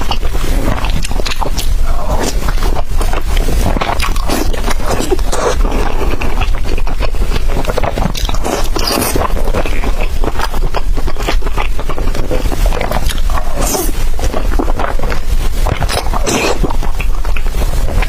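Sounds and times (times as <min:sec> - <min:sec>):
biting and chewing food: 0:00.0 - 0:18.0.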